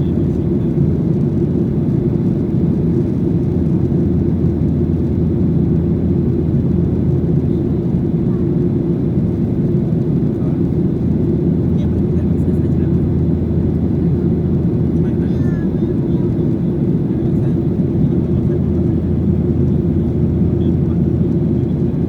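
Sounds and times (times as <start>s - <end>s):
aircraft engine drone: 0.0s - 22.0s
airflow over fuselage: 0.0s - 22.0s.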